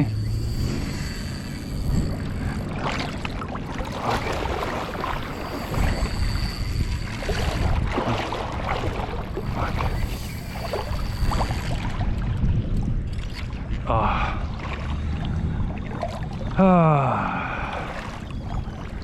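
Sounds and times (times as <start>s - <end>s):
thin steady whine: 0.0s - 19.0s
water sloshing and splashing: 0.0s - 19.0s
wind rumbling on microphone: 0.0s - 19.0s.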